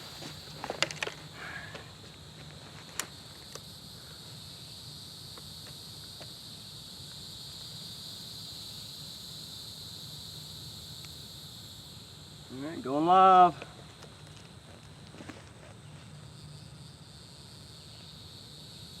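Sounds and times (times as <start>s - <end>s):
insects droning high-pitched: 0.0s - 19.0s.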